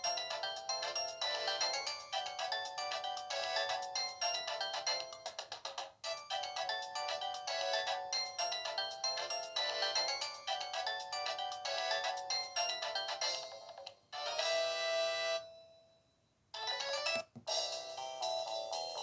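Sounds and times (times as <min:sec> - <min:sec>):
phone ringtone melody: 0:00.0 - 0:16.0, 0:16.6 - 0:19.0.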